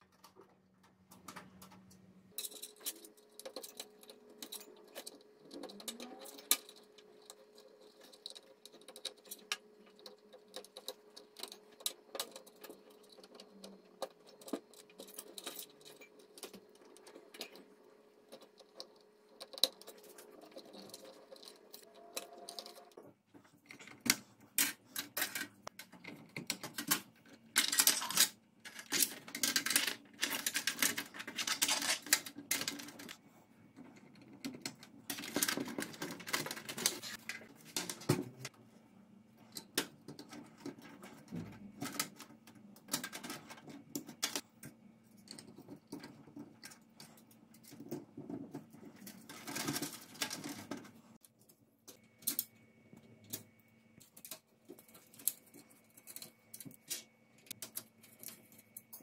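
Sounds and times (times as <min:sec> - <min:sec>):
computer cables clicking and rustling: 0:00.0 - 0:38.7, 0:39.4 - 0:59.0.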